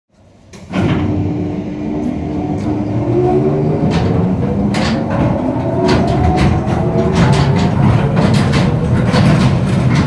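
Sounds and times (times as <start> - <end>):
ride machinery rumble and hum: 0.2 - 10.0.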